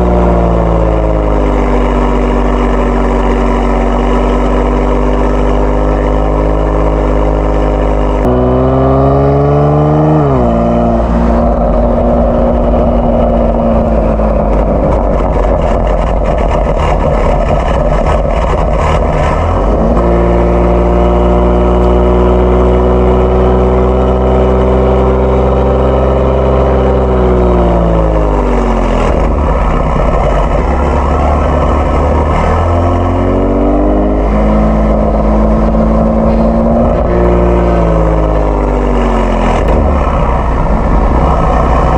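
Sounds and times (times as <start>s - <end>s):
car engine accelerating: 0.0s - 41.9s
rough loud exhaust noise: 0.0s - 41.9s.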